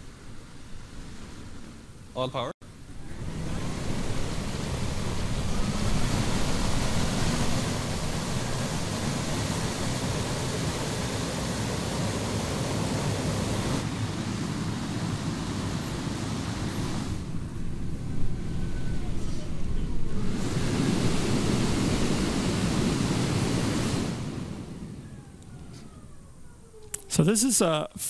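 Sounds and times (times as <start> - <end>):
propeller rushing hiss: 2.7 - 27.8.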